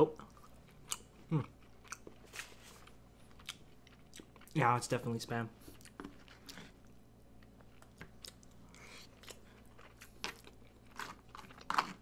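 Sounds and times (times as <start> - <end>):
close chewing with mouth clicks: 0.2 - 4.6, 5.6 - 12.0.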